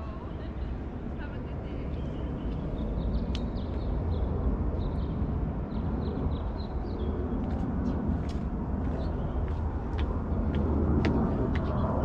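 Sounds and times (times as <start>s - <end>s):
steady low rumble: 0.0s - 12.0s
small birds chirping: 0.1s - 12.0s.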